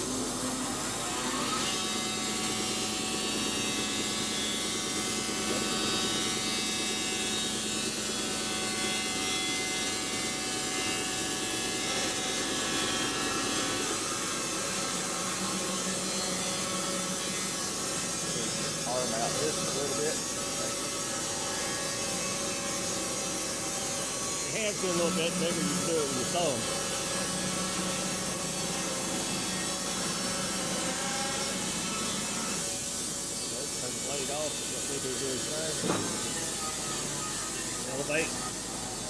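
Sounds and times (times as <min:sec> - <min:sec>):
band sawmill sawing log: 0:00.2 - 0:36.8.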